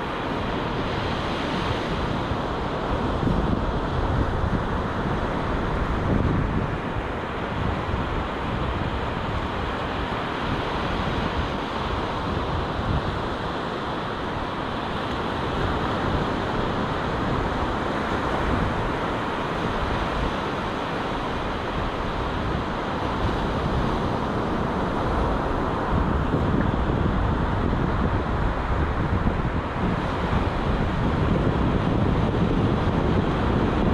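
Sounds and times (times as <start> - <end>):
small waves breaking on sand: 0.0 - 33.9
wind buffeting microphone: 0.0 - 33.9.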